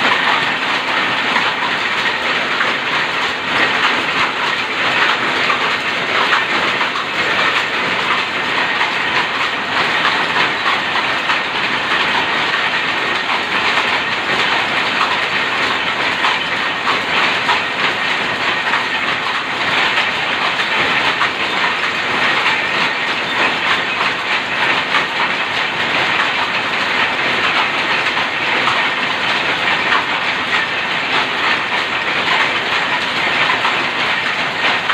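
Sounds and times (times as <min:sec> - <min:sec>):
power looms clattering: 0:00.0 - 0:34.9.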